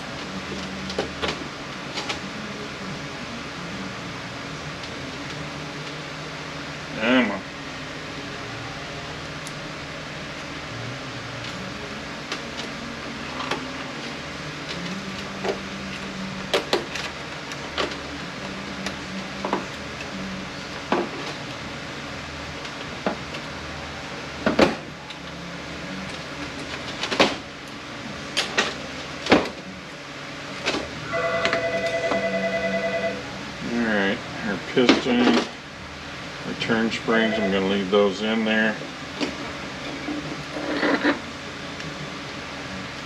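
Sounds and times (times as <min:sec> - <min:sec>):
fan hum: 0:00.0 - 0:43.0.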